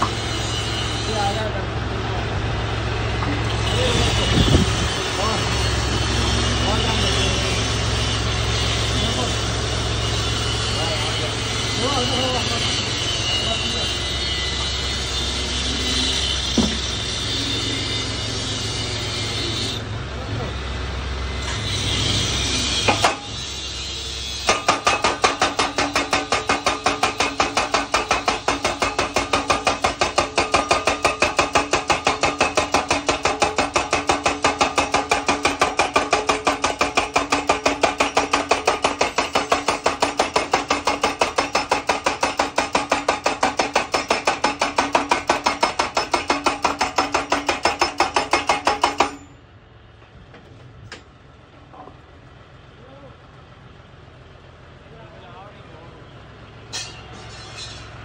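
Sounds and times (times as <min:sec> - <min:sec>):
hydraulic hammer pounding steel post: 0:00.0 - 0:01.4, 0:03.2 - 0:19.8, 0:21.4 - 0:49.4, 0:56.7 - 0:58.0.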